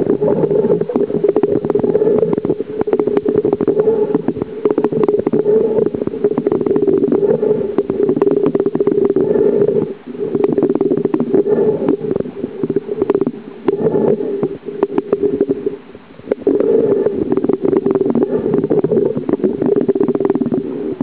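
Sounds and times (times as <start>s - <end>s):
dense crackling underwater: 0.0s - 21.0s
muffled underwater rumble: 0.0s - 21.0s.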